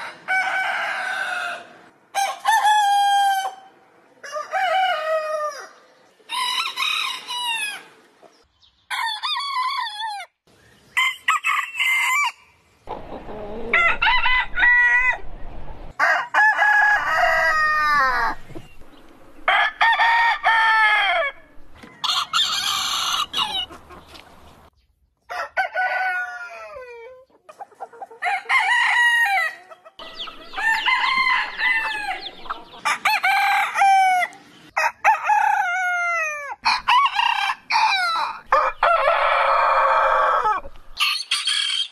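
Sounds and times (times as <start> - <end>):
roosters crowing: 0.0 - 8.0, 8.9 - 12.5, 13.2 - 24.1, 25.3 - 27.0, 28.2 - 41.9.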